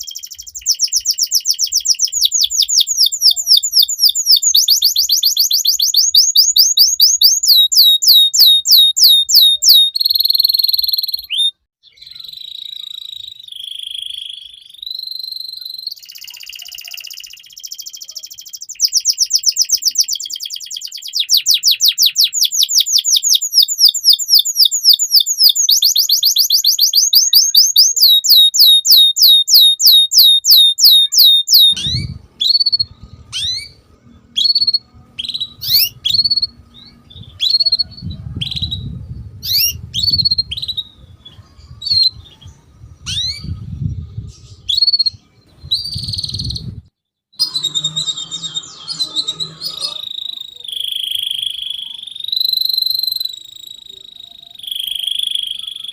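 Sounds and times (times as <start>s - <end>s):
canary singing: 0.0s - 46.8s, 47.4s - 55.9s.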